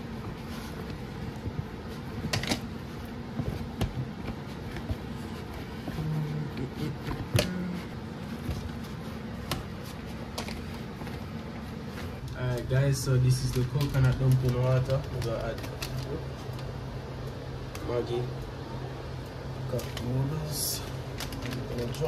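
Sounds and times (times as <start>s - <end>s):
hands kneading dough: 0.0s - 22.0s
steady room hum: 0.0s - 22.0s.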